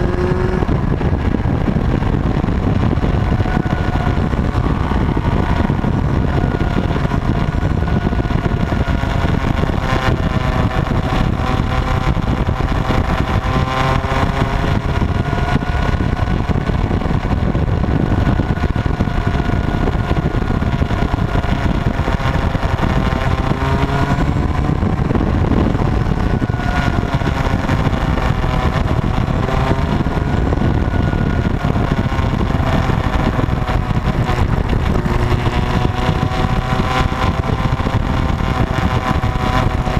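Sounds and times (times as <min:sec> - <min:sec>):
motorcycle engines rumbling: 0:00.0 - 0:39.9.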